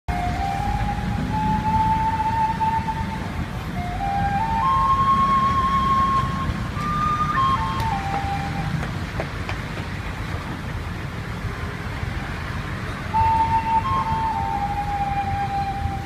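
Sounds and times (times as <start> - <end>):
traffic noise: 0.1 - 16.0.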